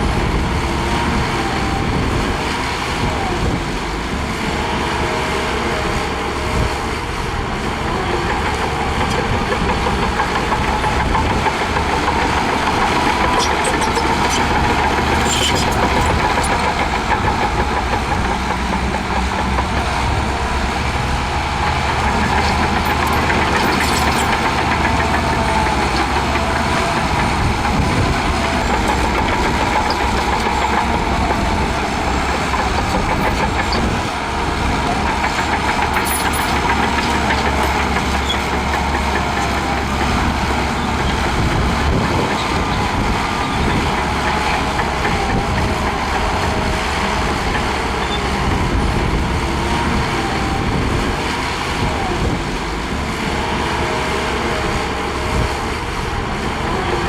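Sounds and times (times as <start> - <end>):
heavy diesel engine rumble: 0.0 - 57.0.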